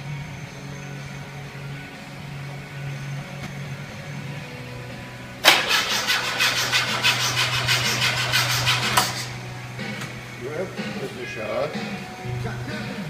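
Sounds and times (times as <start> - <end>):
car engine starting and running: 0.4 - 12.5.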